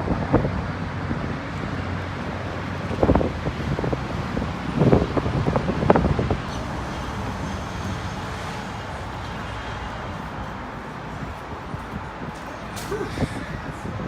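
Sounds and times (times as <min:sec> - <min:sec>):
steady background rush: 0:00.0 - 0:14.0
wind buffeting microphone: 0:00.0 - 0:14.0.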